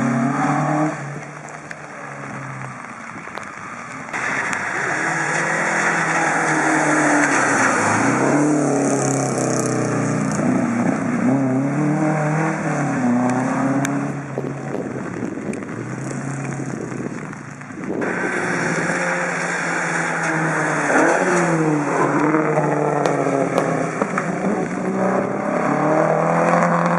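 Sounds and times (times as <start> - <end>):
rally car engine revving: 0.0 - 26.9.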